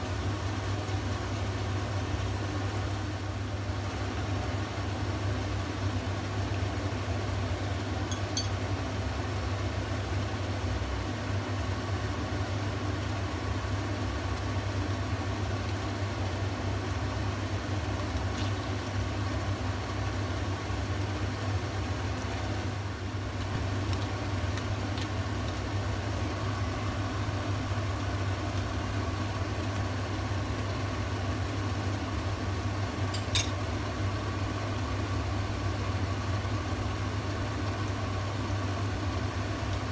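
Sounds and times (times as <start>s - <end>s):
kitchen appliance humming: 0.0s - 39.9s.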